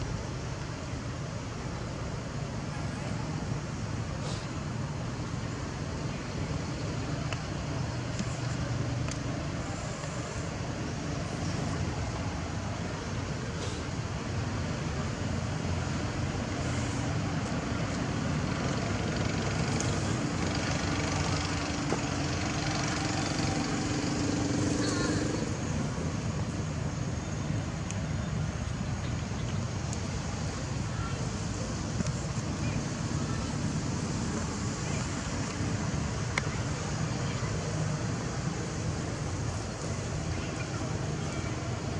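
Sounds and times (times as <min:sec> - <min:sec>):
low rumbling background noise: 0:00.0 - 0:41.9.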